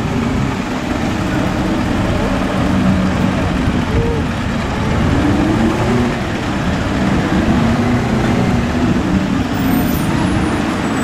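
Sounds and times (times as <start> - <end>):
diesel trucks driving past: 0.0 - 11.0.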